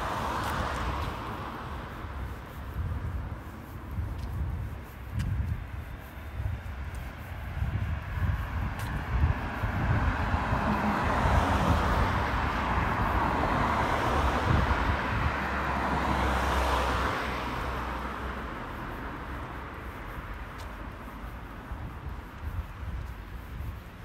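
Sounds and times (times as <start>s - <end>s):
car passing: 0.0s - 4.1s, 5.8s - 22.7s.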